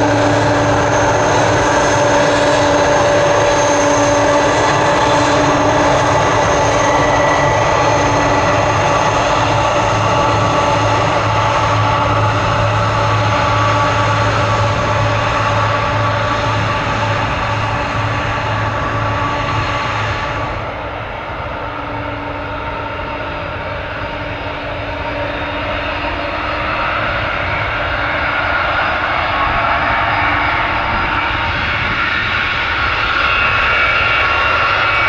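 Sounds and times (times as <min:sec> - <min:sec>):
airliner engines roaring: 0:00.0 - 0:35.0.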